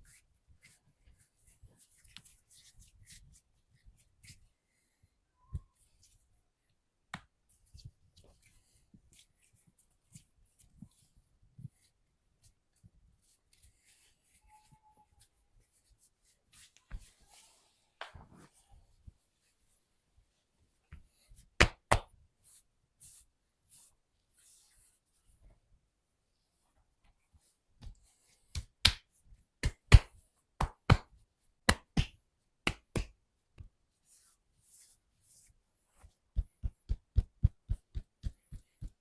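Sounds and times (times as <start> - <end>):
hands rubbing and tapping skin: 0.0 - 4.6, 5.5 - 20.0, 20.7 - 25.5, 26.7 - 39.0.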